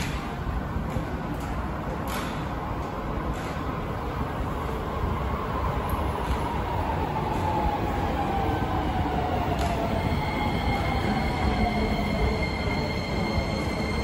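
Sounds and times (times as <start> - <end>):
train rumbling in tunnel: 0.0 - 14.0.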